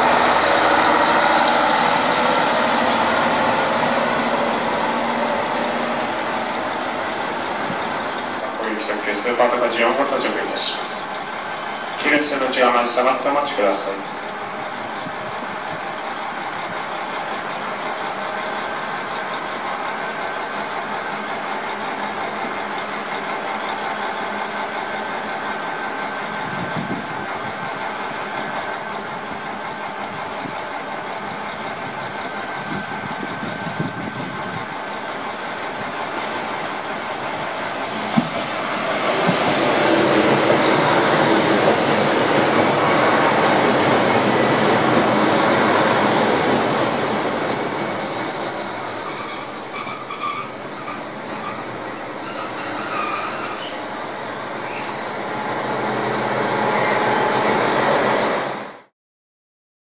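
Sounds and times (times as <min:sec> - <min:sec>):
diesel train approaching: 0:00.0 - 0:58.9.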